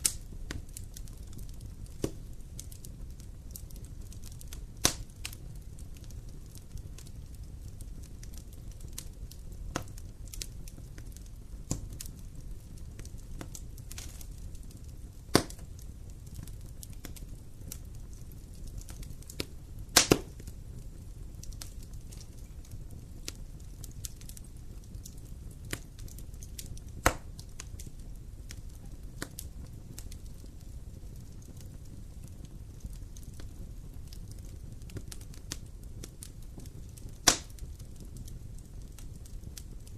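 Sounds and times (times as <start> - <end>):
low rumble of flame: 0.0 - 39.9
wood crackling and popping: 0.0 - 39.9.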